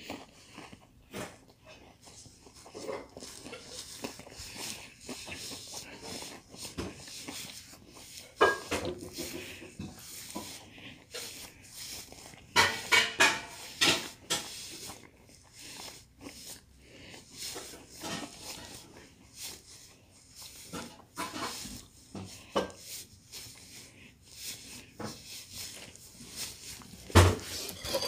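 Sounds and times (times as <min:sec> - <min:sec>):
chewing cereal: 0:00.0 - 0:28.0.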